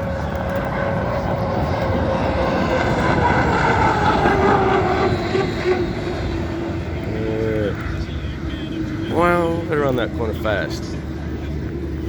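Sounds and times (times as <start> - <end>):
racing boat engine whine: 0.0 - 12.0.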